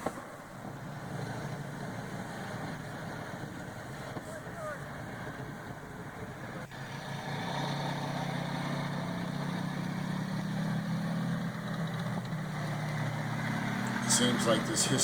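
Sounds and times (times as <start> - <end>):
tank engine running: 0.0 - 15.0.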